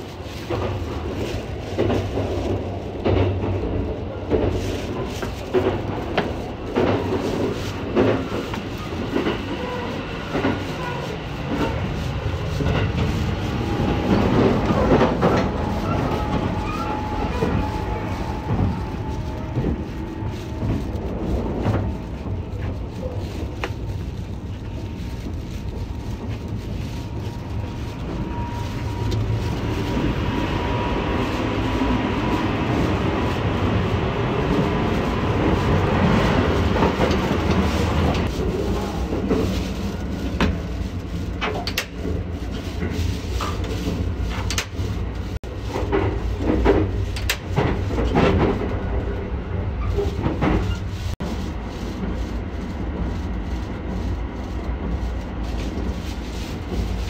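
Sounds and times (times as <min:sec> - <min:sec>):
train rumble and rail clatter: 0:00.0 - 0:57.0.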